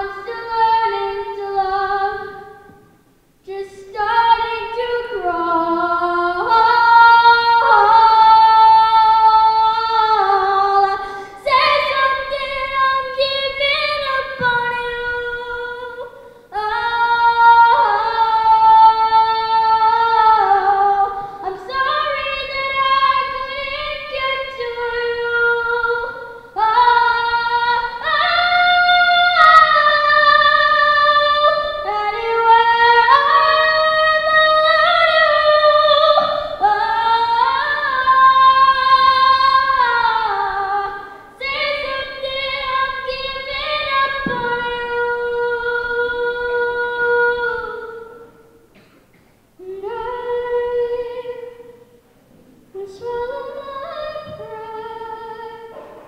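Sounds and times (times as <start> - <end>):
boy singing into microphone: 0.0 - 49.0, 49.6 - 56.0.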